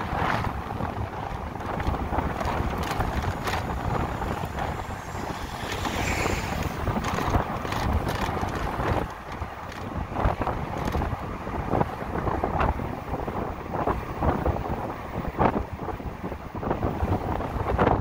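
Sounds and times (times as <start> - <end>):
road rumble: 0.0 - 18.0
wind buffeting microphone: 0.0 - 18.0.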